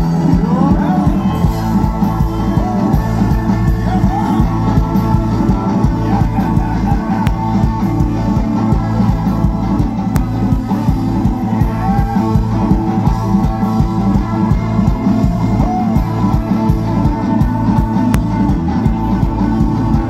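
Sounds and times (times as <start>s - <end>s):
heavy steady bass: 0.0s - 20.0s
live band playing: 0.0s - 20.0s.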